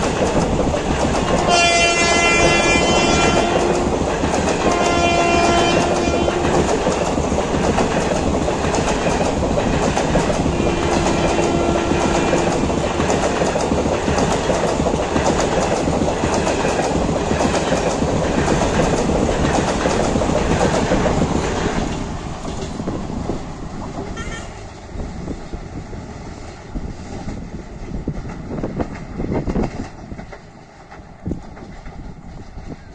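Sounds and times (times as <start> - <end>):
train rumbling past: 0.0 - 32.9
wheels clacking over rail joints: 0.0 - 32.9.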